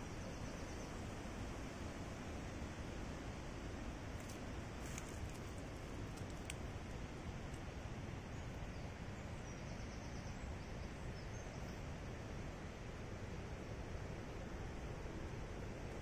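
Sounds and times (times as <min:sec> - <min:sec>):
woodland background noise: 0:00.0 - 0:16.0.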